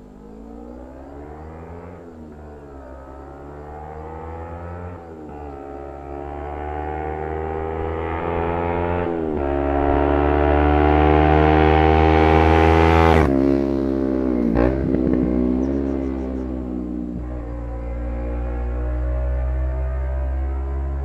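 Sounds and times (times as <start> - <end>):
motorcycle engine revving past: 0.2 - 21.0.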